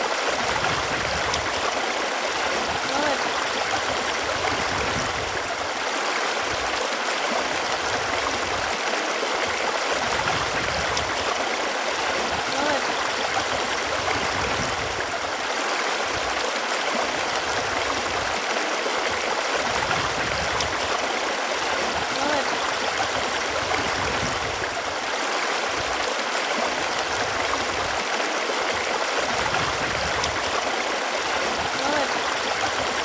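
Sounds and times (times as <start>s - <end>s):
running water: 0.0s - 33.0s.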